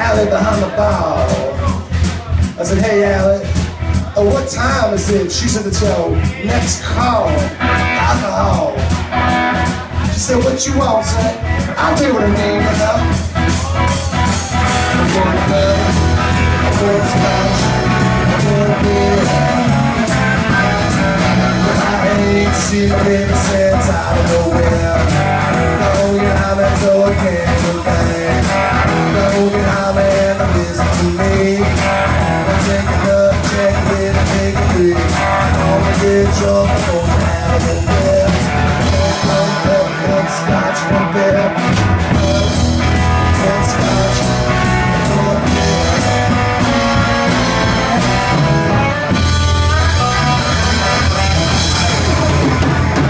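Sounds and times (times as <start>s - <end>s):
drum kit: 0.0s - 53.0s
electric guitar: 0.0s - 53.0s
person singing: 0.0s - 53.0s.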